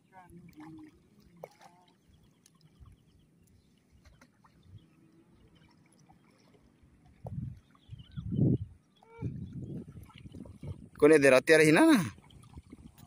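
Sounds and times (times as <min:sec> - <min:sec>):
seawater lapping around legs: 0:00.0 - 0:08.0, 0:08.8 - 0:11.1, 0:11.7 - 0:13.0
low rushes of water: 0:00.0 - 0:13.0.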